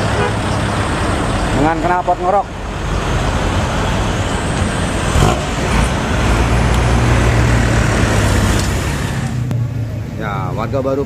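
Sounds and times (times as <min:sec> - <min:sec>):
bus engine running: 0:00.0 - 0:11.0.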